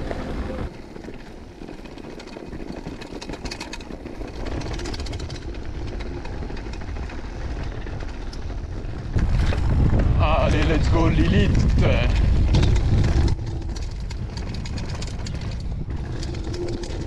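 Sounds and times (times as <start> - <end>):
bike clicks and rattles: 0.0 - 17.0
tyres crunching over loose stones: 0.0 - 17.0.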